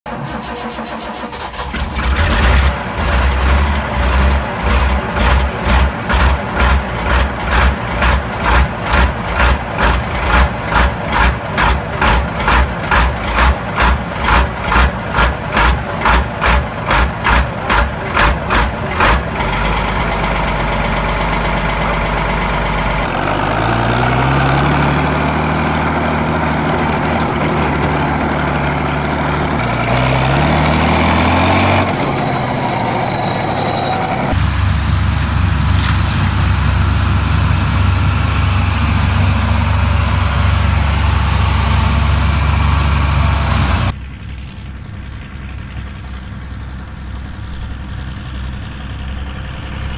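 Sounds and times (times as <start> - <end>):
tractor diesel engine running: 0.0 - 49.9
tractor engine revving: 0.0 - 49.9.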